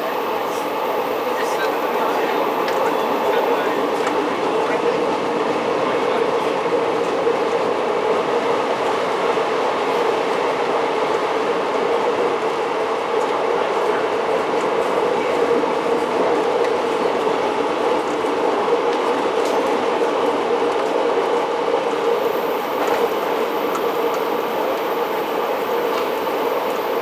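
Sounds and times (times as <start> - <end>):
wheels on rail: 0.0 - 11.2, 12.1 - 27.0
rail motor engine drone: 0.0 - 27.0.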